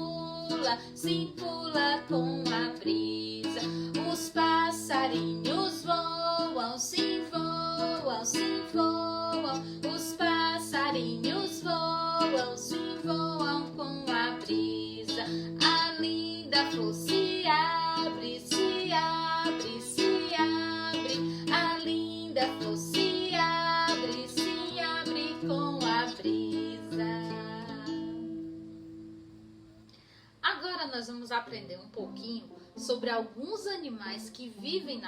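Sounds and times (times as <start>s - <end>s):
woman singing children's song: 0.0s - 28.4s, 30.4s - 35.0s
strummed acoustic guitar: 0.0s - 29.8s.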